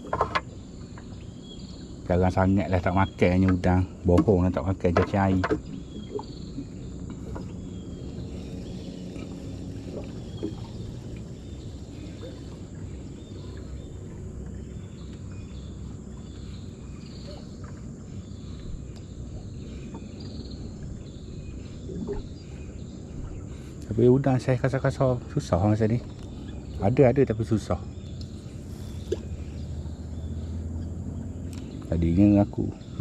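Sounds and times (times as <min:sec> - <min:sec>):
faint chirps: 0:05.6 - 0:33.0
low rumble: 0:05.6 - 0:33.0.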